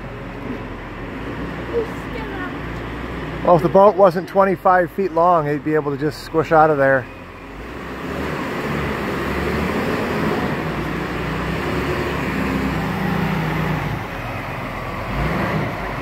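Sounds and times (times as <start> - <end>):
forklift engine droning: 0.0 - 16.0.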